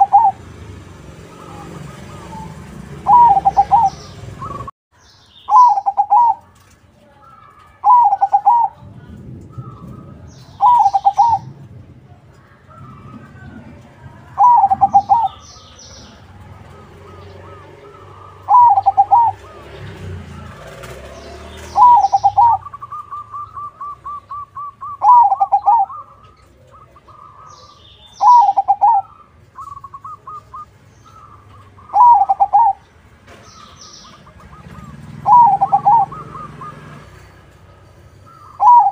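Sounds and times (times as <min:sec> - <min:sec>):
dove trilled cooing: 0:00.0 - 0:00.4, 0:01.3 - 0:04.7, 0:05.5 - 0:06.6, 0:07.8 - 0:11.6, 0:12.7 - 0:32.9, 0:33.6 - 0:38.9.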